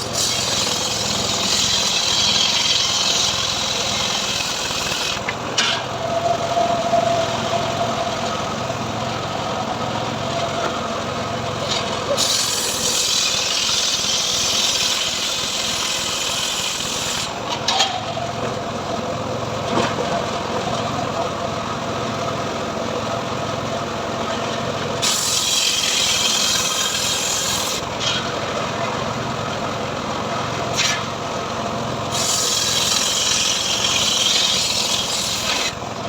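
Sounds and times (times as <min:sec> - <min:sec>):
portable sawmill engine running: 0:00.0 - 0:36.0.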